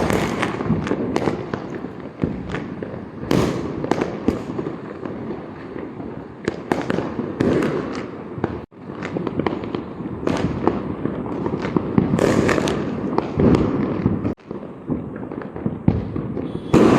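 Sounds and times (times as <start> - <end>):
firecrackers cracking and banging: 0.0 - 16.9
fireworks crackle: 0.0 - 16.9.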